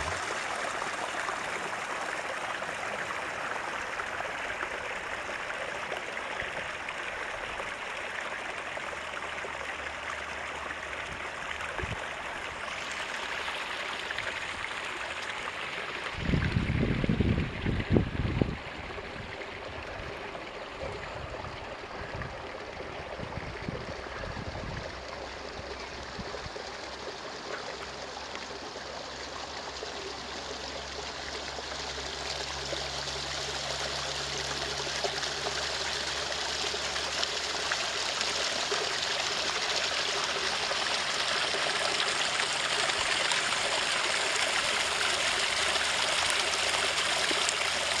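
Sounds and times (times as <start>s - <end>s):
brook trickling and babbling: 0.0s - 48.0s.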